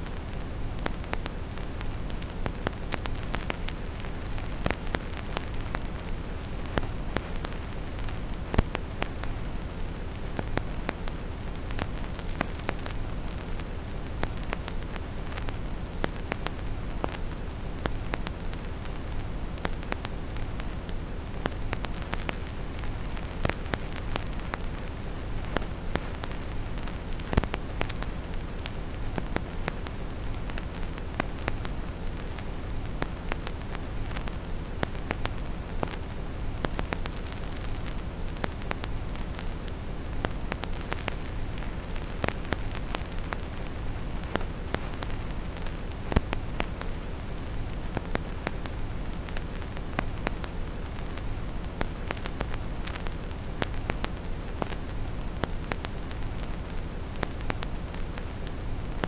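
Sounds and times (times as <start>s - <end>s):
steady brown noise: 0.0s - 59.0s
vinyl record crackle: 0.0s - 59.0s.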